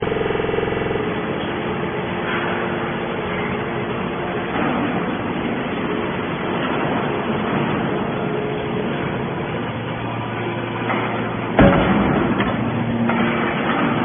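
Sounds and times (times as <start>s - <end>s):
baling machinery running: 0.0s - 14.0s
pitched hum: 0.0s - 14.0s.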